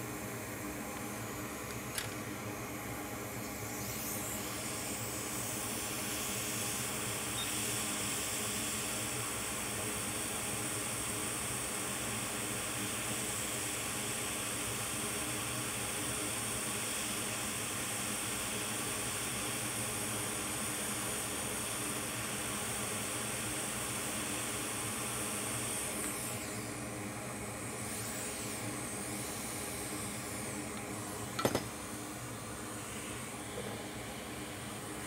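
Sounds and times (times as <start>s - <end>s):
hot air blower hissing: 0.0s - 35.0s.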